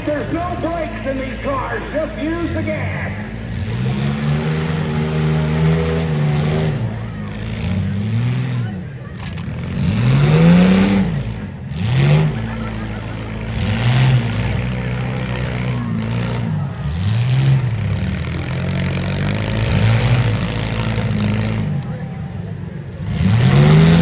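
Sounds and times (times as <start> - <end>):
car engines revving: 0.0 - 24.0
steady engine drone: 0.0 - 24.0.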